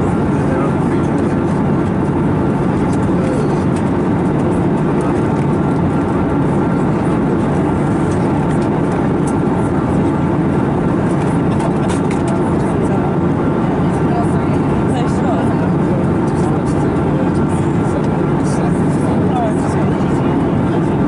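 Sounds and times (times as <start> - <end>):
airplane cabin roar: 0.0 - 21.0.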